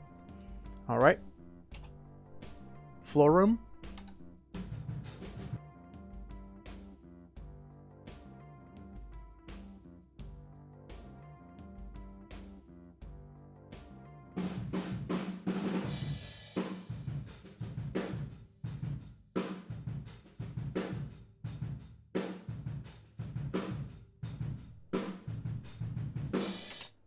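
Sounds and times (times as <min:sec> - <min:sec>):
drum kit groove: 0:00.0 - 0:27.0.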